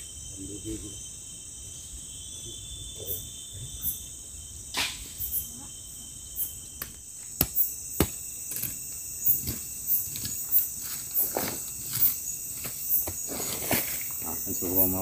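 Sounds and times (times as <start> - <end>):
crickets and insects trilling: 0.0 - 15.0.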